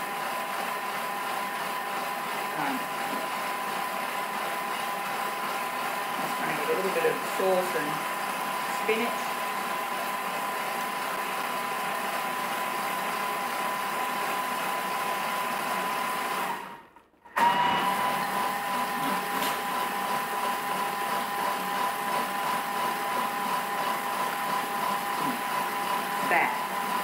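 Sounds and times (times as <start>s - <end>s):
kitchen appliance motor whine: 0.0s - 27.0s.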